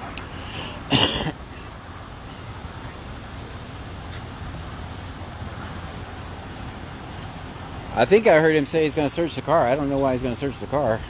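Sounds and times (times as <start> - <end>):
traffic passing on road: 0.0 - 11.0.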